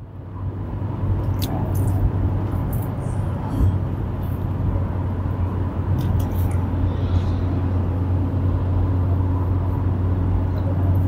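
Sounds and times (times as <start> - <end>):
car engine and tyres humming: 0.0 - 11.0.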